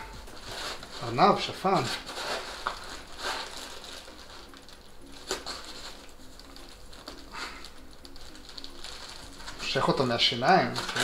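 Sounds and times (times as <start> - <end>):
foam rubbing and squeaking: 0.0 - 11.0.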